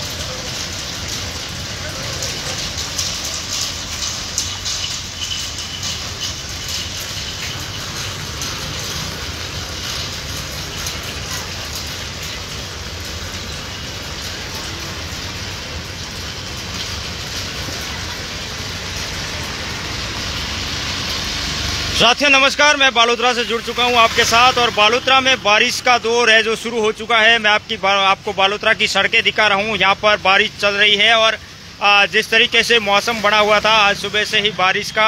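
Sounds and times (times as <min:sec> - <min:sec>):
light rain on wet street: 0:00.0 - 0:35.0.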